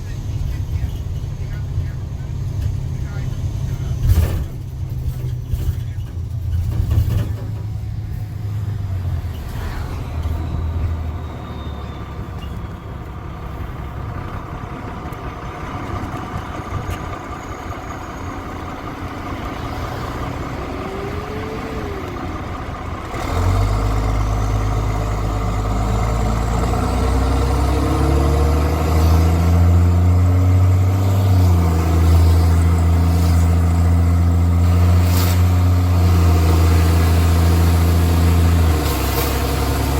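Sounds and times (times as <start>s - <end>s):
diesel bus engine accelerating: 0.0s - 39.9s.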